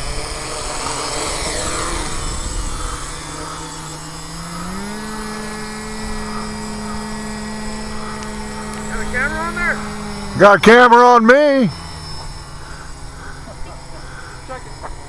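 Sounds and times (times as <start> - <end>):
quadcopter motors whirring: 0.0 - 15.0.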